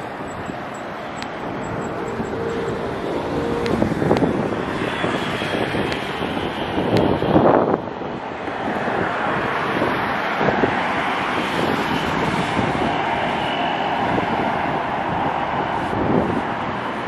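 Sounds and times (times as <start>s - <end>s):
road traffic rushing: 0.0s - 17.0s
wind buffeting microphone: 0.0s - 17.0s.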